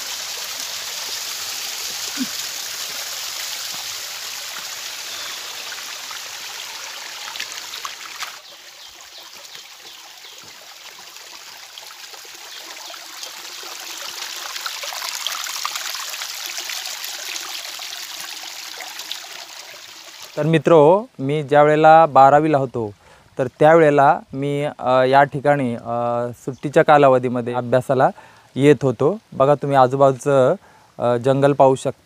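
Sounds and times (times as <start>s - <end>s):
stream trickling over rocks: 0.0s - 32.0s.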